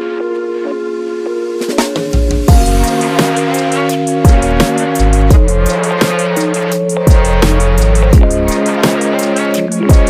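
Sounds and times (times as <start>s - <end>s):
synth chords: 0.0s - 10.0s
drum hits: 1.6s - 10.0s.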